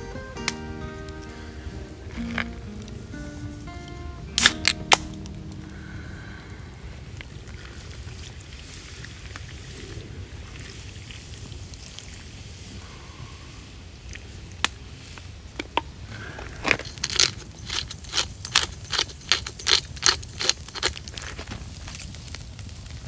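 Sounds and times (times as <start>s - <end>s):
fire popping and spitting: 0.4s - 13.0s, 13.6s - 23.0s.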